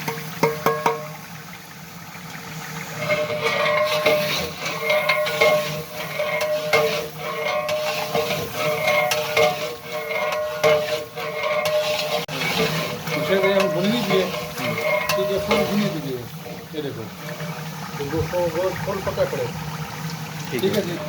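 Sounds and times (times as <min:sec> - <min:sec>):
metal ladle scraping pot: 0:00.0 - 0:01.2, 0:02.7 - 0:21.0
food frying: 0:00.0 - 0:21.0.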